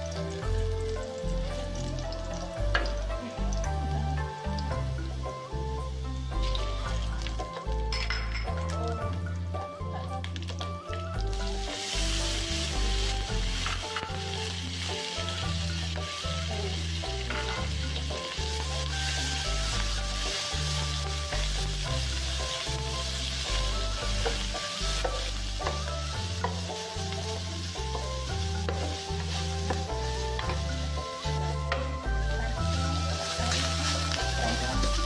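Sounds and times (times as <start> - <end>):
background music with bass line: 0.0 - 35.0
food sizzling in hot oil: 0.0 - 35.0.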